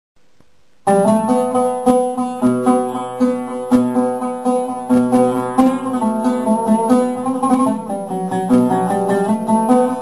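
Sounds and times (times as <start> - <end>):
solo oud melody: 0.8 - 10.0.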